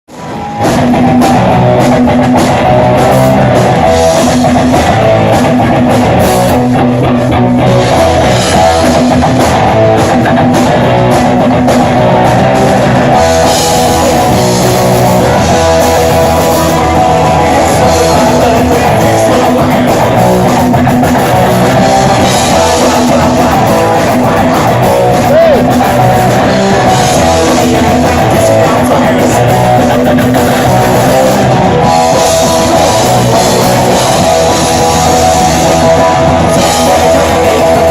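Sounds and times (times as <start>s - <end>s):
electric guitar: 0.0s - 37.9s
drum kit: 0.1s - 37.9s
live rock band playing: 0.1s - 37.9s.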